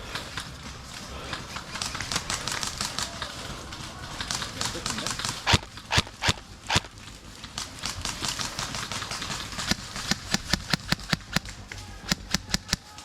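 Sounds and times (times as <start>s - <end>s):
airsoft guns firing: 1.5s - 13.0s.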